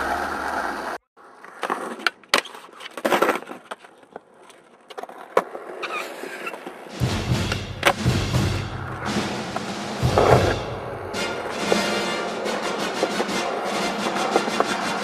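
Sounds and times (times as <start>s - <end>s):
skateboard clacking on ground: 0.0s - 8.0s, 8.8s - 15.0s
skateboard wheels rolling on concrete: 0.0s - 15.0s.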